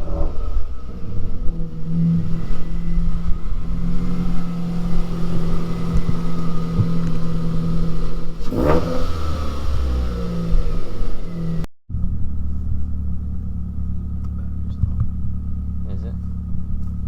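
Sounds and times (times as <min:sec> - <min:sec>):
loud car engine running: 0:00.0 - 0:17.0.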